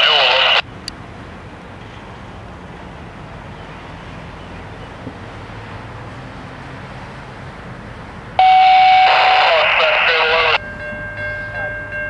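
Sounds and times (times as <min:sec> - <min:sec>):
distant train rumbling: 0:00.0 - 0:12.0.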